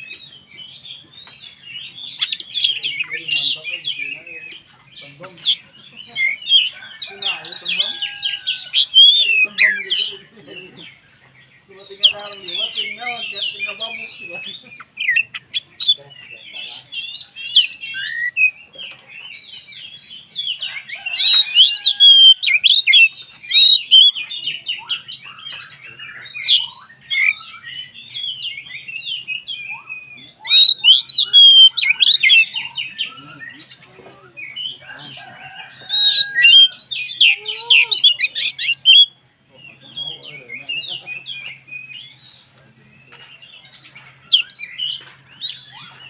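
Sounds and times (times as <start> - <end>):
bird singing whistles and chatter: 0.0 - 46.0.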